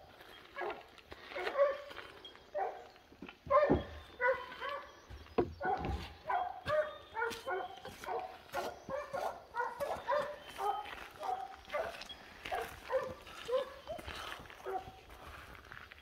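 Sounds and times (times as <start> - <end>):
hounds barking: 0.5 - 5.0, 5.6 - 15.1.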